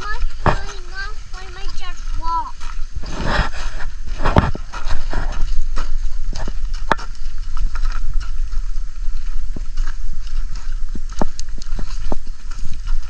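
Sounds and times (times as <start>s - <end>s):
footsteps on rough road: 0.0s - 13.0s
steady low rumble: 0.0s - 13.0s.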